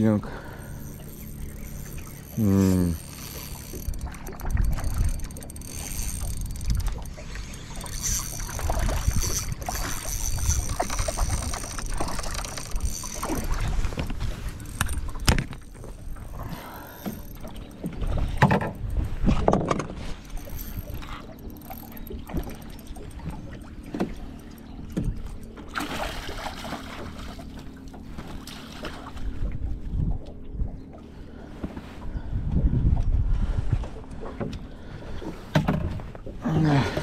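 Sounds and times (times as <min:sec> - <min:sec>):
water lapping against hull: 0:00.0 - 0:37.0.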